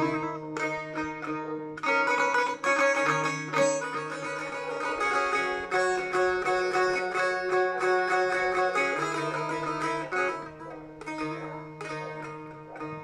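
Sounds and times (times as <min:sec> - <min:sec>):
plucked long-necked lute melody: 0:00.0 - 0:13.0.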